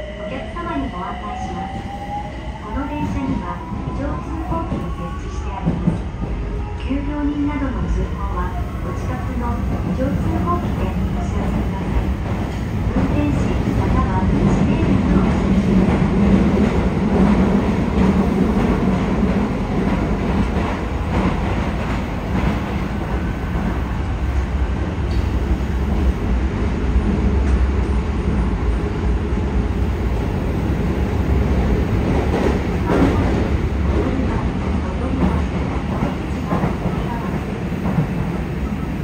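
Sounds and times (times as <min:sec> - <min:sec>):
train rumbling through tunnel: 0:00.0 - 0:39.0.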